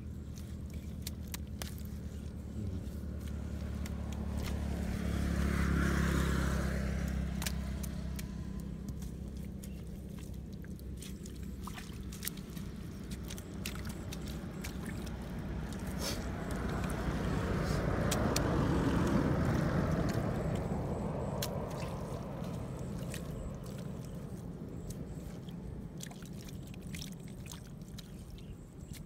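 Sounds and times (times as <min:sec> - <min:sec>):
engine drone: 0:00.0 - 0:29.0
stick scraping wet clay: 0:00.2 - 0:29.0.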